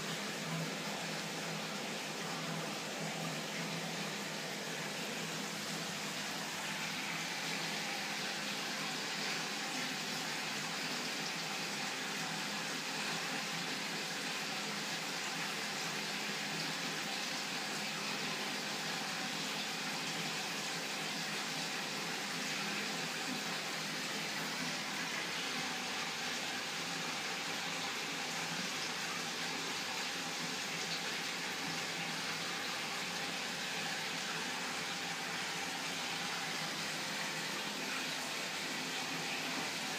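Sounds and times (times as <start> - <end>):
aquarium water rushing: 0.0 - 39.9.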